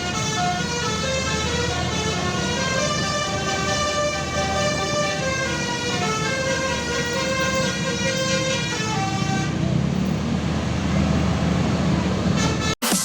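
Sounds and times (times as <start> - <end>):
bus multi-tone horn melody: 0.0 - 9.8, 12.1 - 13.0.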